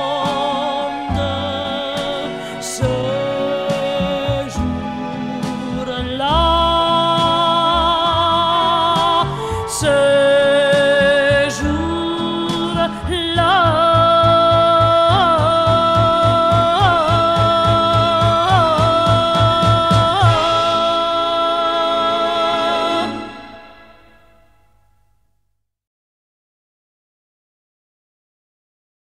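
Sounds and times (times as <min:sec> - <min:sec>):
pulsing bass: 0:00.0 - 0:24.5.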